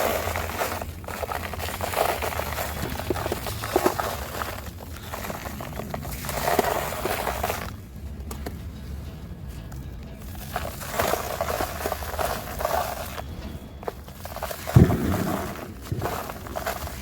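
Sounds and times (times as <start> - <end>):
dry material crunching and crackling: 0.0 - 8.5, 9.5 - 17.0.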